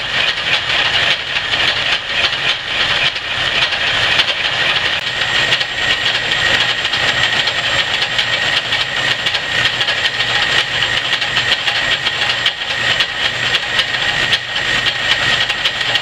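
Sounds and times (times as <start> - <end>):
metal lathe cutting steel: 0.0 - 16.0.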